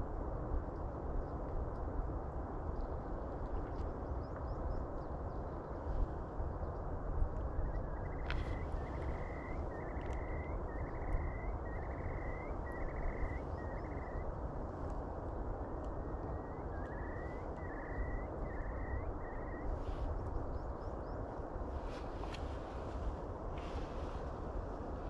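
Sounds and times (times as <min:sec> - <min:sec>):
wind and sea on rocky shore: 0:00.0 - 0:25.0.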